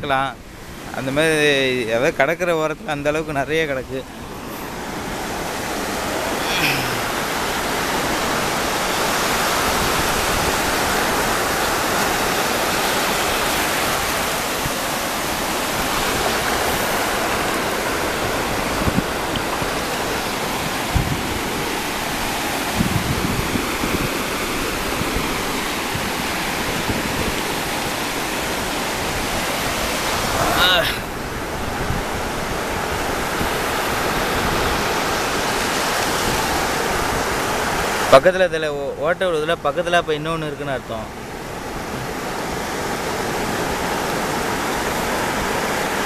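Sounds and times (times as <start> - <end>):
surf washing over sand: 0.0 - 46.0.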